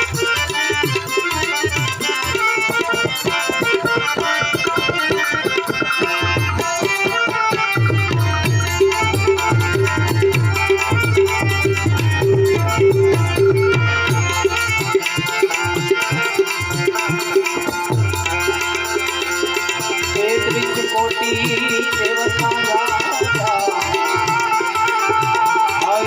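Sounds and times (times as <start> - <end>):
hand drums beating: 0.0 - 26.0
harmonium melody: 0.0 - 26.0.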